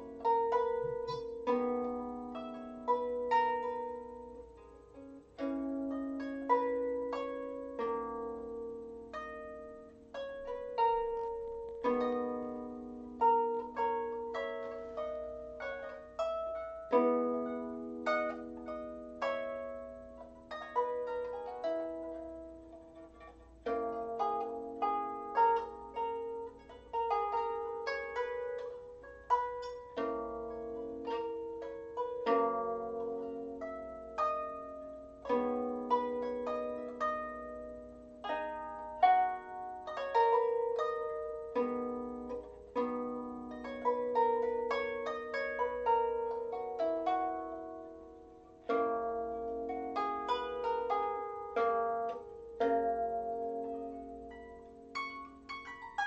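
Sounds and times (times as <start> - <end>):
harp plucked melody: 0.0 - 56.0.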